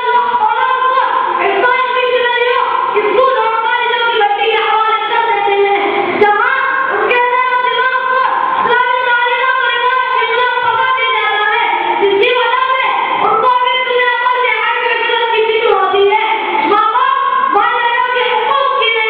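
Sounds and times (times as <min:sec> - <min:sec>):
boy chanting into microphone: 0:00.0 - 0:19.0.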